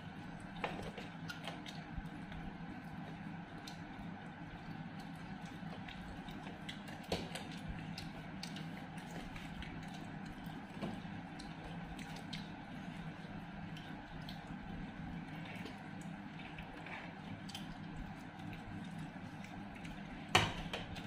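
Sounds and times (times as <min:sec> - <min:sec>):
chewing: 0:00.0 - 0:21.0
steady low hum: 0:00.0 - 0:21.0.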